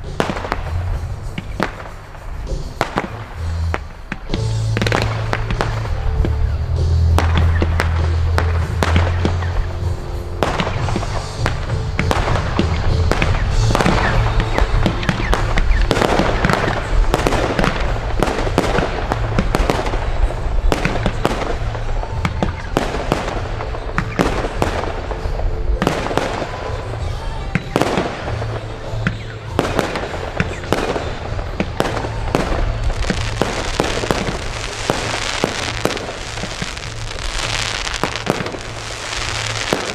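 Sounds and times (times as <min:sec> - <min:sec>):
fireworks launch bangs: 0:00.0 - 0:39.9
music with bass line: 0:00.0 - 0:39.9.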